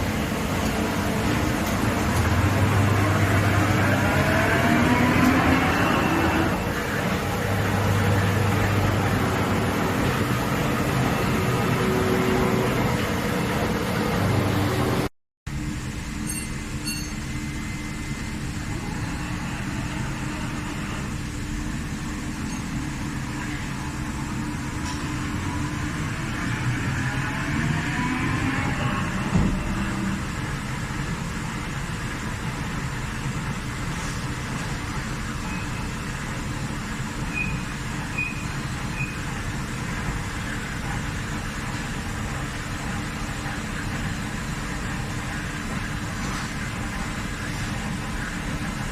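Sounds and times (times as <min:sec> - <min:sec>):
machinery hum and rumble: 0:00.0 - 0:48.9.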